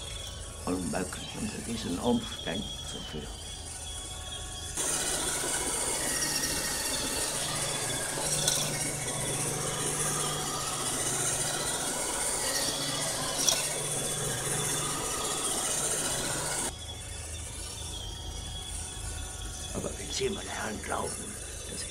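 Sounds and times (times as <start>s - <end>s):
robot vacuum running: 0.0s - 21.9s.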